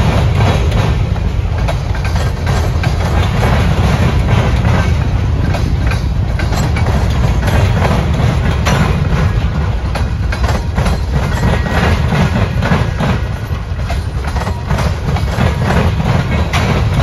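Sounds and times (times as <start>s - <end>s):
train wheels rumbling on rail: 0.0s - 17.0s
wheels clacking over track joints: 0.0s - 17.0s.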